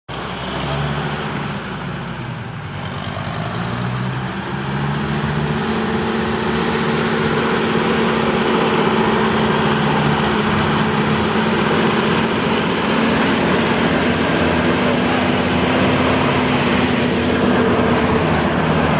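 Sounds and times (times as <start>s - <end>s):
truck engine rumbling: 0.1s - 18.9s.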